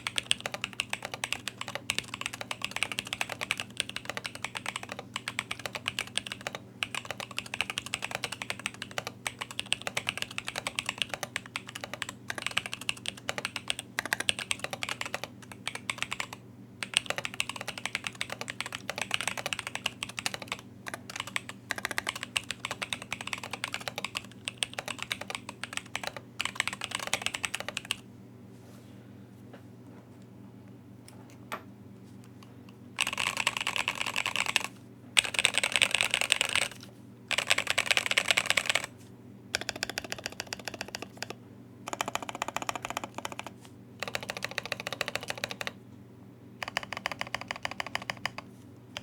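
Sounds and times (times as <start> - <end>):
fast typing on mechanical keyboard: 0.0 - 28.0, 33.0 - 38.9, 39.5 - 45.8, 46.6 - 49.0.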